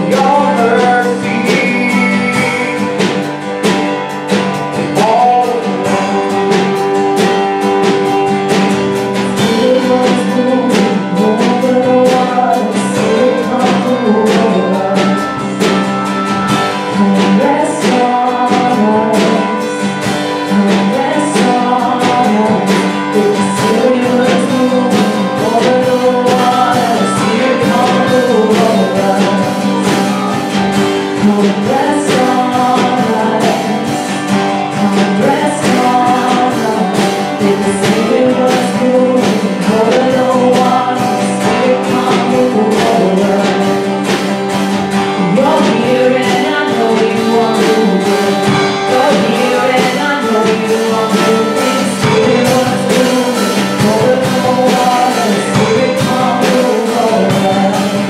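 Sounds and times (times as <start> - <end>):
person singing worship song: 0.0 - 3.4, 4.6 - 58.0
strummed acoustic guitar: 0.0 - 58.0.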